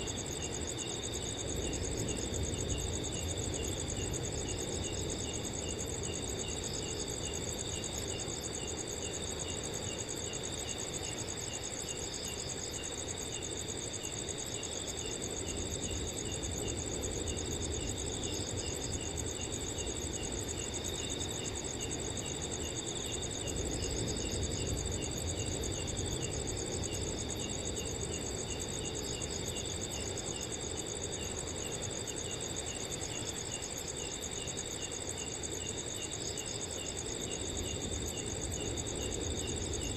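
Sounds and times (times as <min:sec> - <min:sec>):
cricket trilling: 0:00.0 - 0:39.9
crickets chirping: 0:00.0 - 0:39.9.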